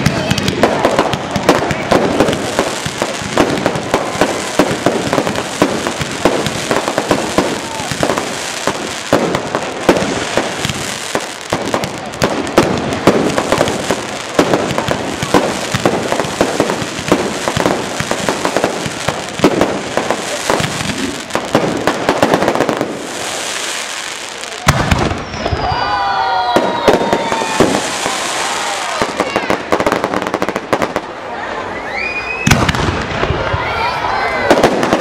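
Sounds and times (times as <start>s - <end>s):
fireworks bangs and crackle: 0.0s - 35.0s.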